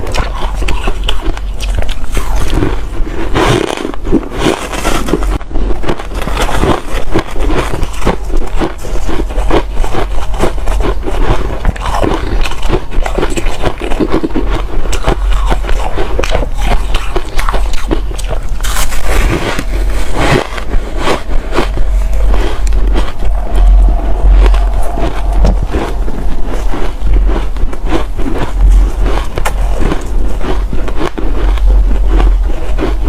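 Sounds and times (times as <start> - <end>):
person crunching ice: 0.0 - 24.0, 27.1 - 33.0.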